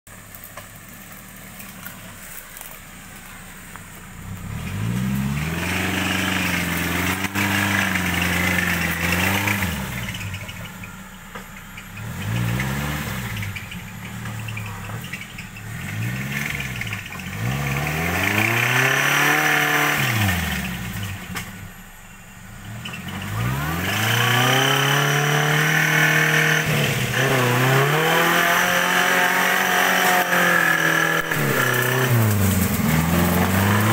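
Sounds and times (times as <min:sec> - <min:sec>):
off-road buggy engine revving: 0:00.1 - 0:33.9.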